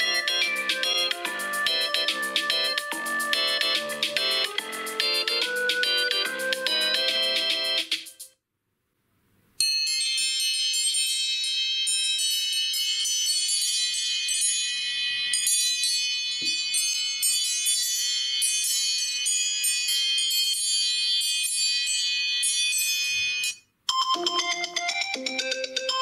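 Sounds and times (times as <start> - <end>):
chime-like phone ringtone: 0.0 - 8.0, 9.6 - 26.0.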